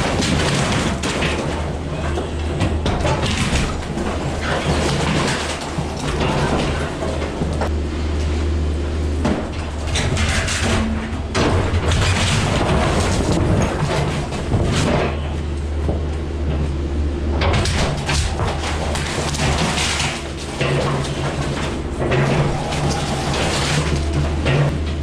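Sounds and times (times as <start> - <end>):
wall crashing and wood breaking: 0.0 - 7.7, 9.2 - 15.3, 17.4 - 25.0
excavator diesel engine running: 0.0 - 25.0.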